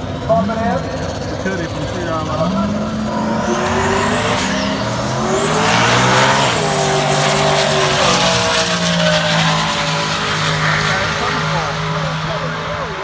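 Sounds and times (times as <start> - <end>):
drag car engine running hard: 0.0 - 13.0
high whine: 1.6 - 13.0.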